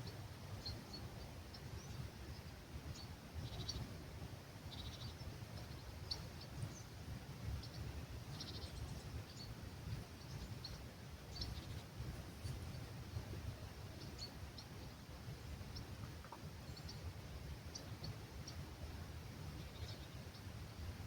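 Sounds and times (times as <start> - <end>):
small birds chirping: 0.0 - 4.0, 4.6 - 21.0
low rumble of breeze: 0.0 - 21.0.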